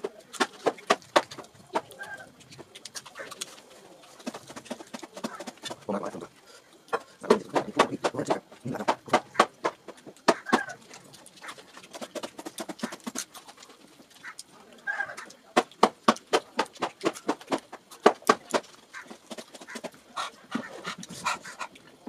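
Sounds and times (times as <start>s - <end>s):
wet chewing with lip smacks: 0.0s - 22.0s.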